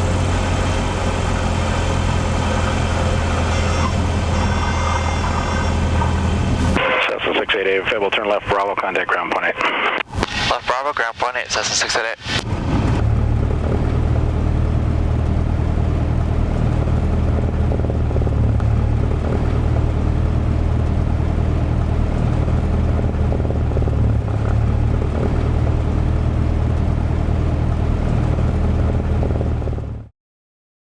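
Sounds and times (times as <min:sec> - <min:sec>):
propeller plane engine droning: 0:00.0 - 0:09.1, 0:10.3 - 0:30.1.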